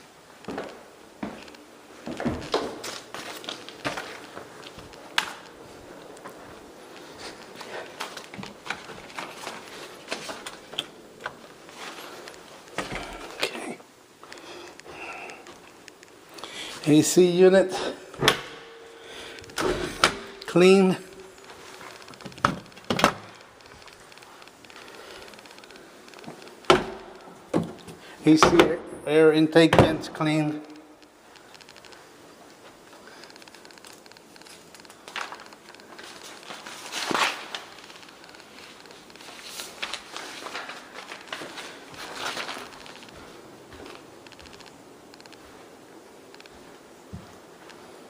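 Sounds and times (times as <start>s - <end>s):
footsteps in a house: 0.0s - 16.9s, 18.1s - 28.2s, 30.6s - 48.0s
faint background noise: 0.0s - 48.0s
faint room hiss: 0.0s - 48.0s.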